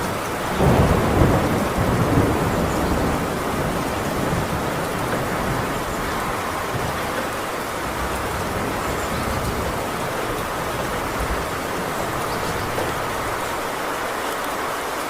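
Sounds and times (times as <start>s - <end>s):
low rumble of thunder: 0.0s - 14.1s
heavy rain on a tin roof: 0.0s - 15.0s.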